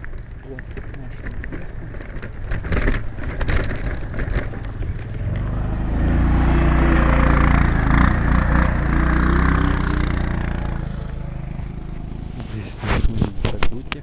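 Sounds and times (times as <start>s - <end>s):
heavy engine droning: 0.0s - 12.8s.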